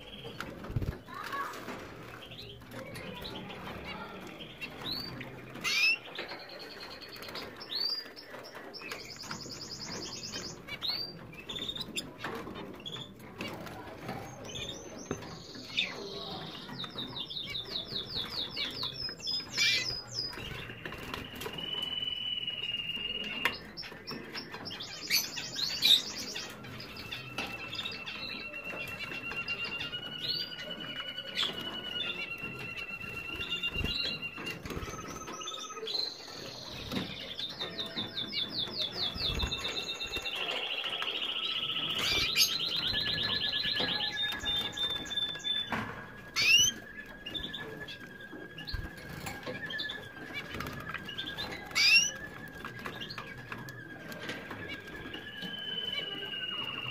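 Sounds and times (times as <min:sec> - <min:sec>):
canaries singing: 0:00.0 - 0:56.9.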